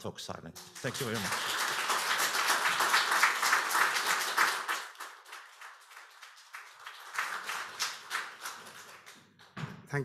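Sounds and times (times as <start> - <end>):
audience applauding: 0.6 - 9.6.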